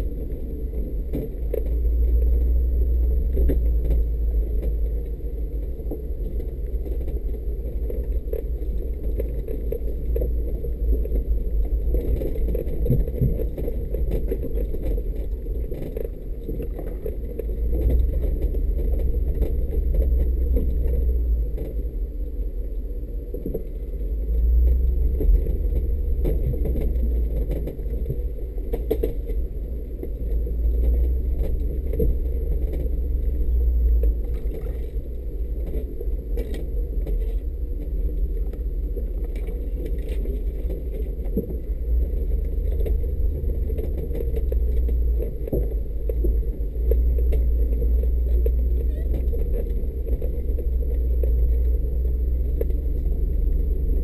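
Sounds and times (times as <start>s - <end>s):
engine deep rumble: 0.0s - 54.0s.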